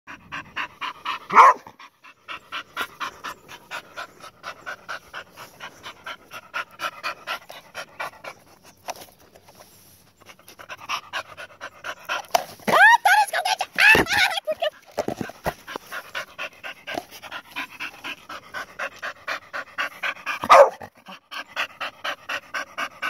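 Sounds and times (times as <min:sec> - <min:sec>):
dog panting: 0:00.1 - 0:09.0, 0:10.2 - 0:12.6, 0:14.5 - 0:23.0.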